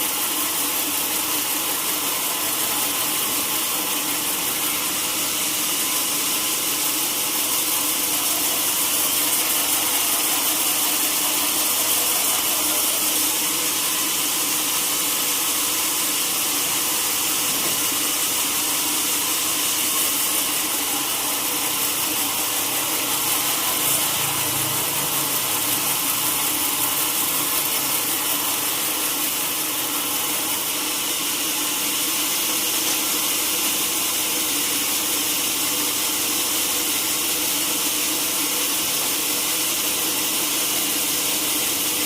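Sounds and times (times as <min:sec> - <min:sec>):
sawmill saw cutting timber: 0:00.0 - 0:42.0.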